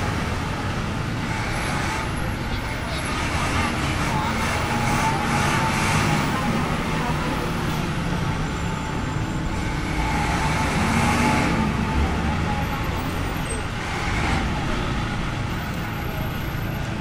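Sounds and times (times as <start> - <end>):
busy road traffic: 0.0 - 17.0.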